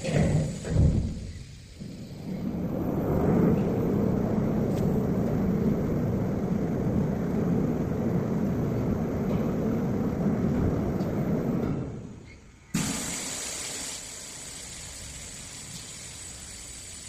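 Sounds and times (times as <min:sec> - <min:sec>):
machinery rumble: 0:00.0 - 0:17.0.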